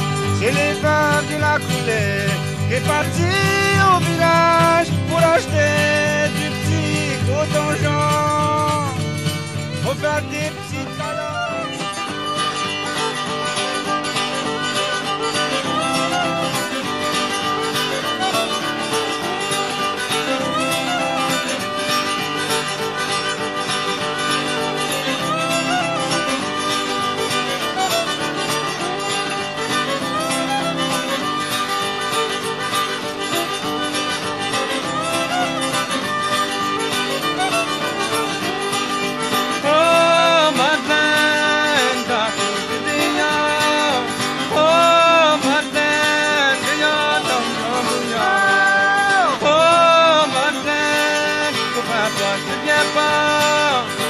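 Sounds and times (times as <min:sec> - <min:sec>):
fiddle playing: 0:00.0 - 0:54.0
guitar accompaniment: 0:00.0 - 0:54.0.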